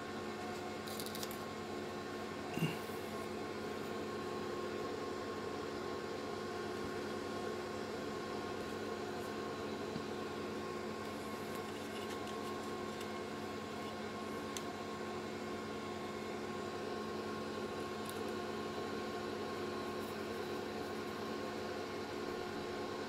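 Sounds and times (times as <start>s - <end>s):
electrical hum with hiss: 0.0s - 23.0s.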